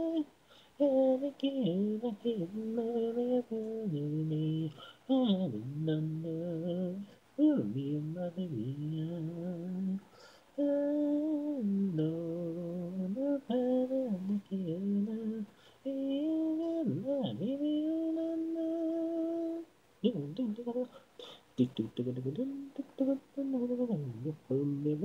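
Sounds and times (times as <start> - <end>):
a cappella singing voices: 0.0 - 25.0.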